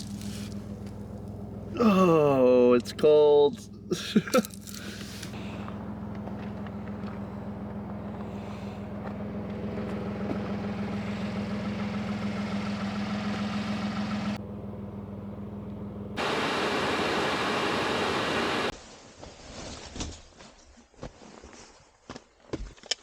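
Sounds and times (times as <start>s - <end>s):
vehicle engine idling: 0.0s - 18.7s.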